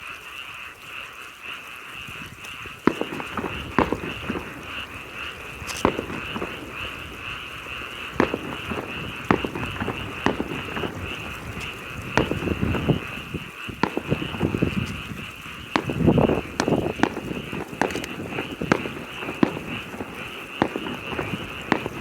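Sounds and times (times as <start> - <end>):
fireworks bursting bangs: 2.0 - 22.0
high pulsing chorus: 2.8 - 22.0.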